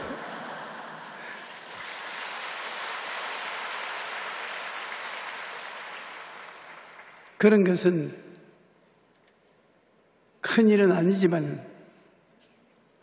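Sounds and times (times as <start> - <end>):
crowd noise in a big hall: 0.0 - 13.0.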